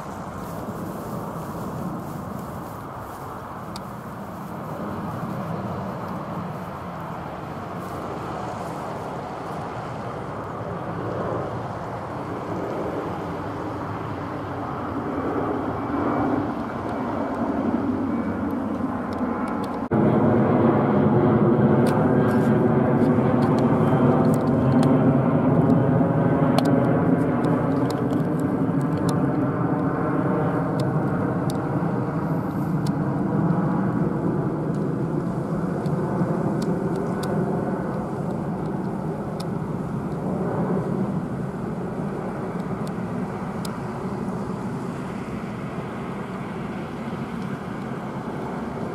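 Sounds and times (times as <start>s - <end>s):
jet engine rumble overhead: 0.0s - 48.9s.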